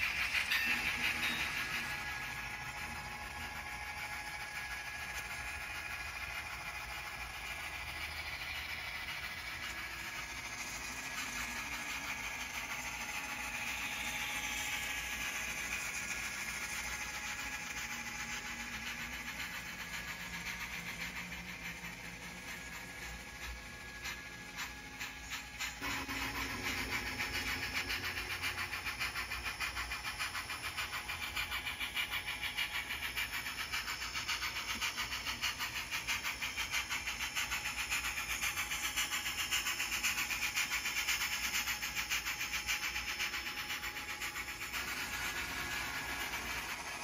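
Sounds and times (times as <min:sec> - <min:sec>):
faint motor hum: 0:00.0 - 0:47.0
model train wheels rattling on rail: 0:00.0 - 0:47.0.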